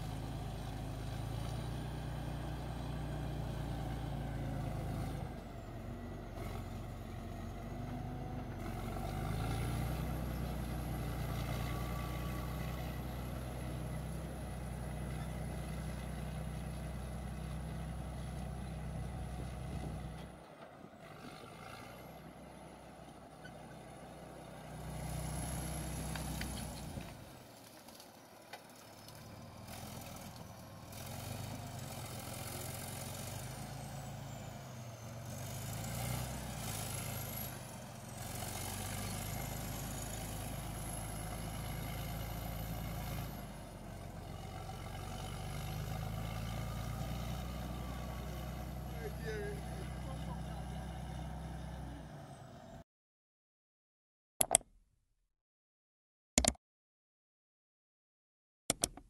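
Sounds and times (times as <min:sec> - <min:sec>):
heavy diesel engine running: 0:00.0 - 0:27.5, 0:28.6 - 0:52.8.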